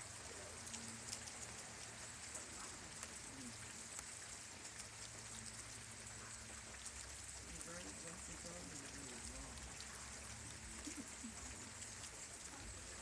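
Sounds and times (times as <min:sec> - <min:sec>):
raindrop ticks: 0:00.0 - 0:13.0
steady rain falling: 0:00.0 - 0:13.0.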